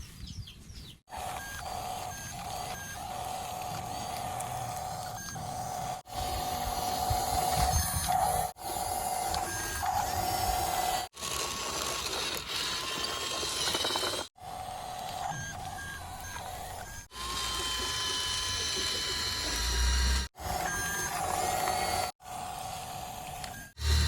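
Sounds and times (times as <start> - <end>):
toy motors whirring and grinding: 1.1 - 24.0.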